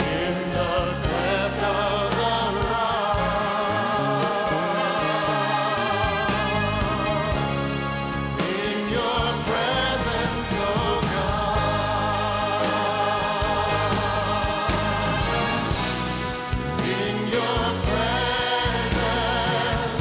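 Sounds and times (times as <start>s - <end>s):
bass notes: 0.0s - 20.0s
choir singing: 0.0s - 20.0s
drums: 0.0s - 20.0s.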